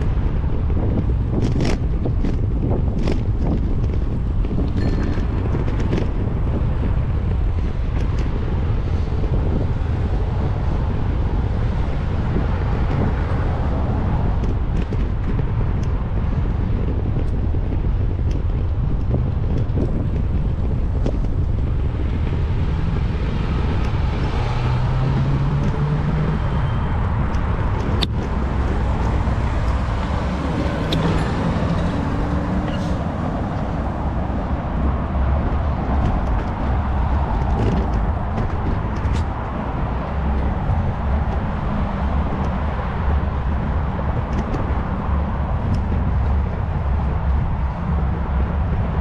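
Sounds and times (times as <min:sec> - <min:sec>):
passing cars rumbling: 0:00.0 - 0:49.0.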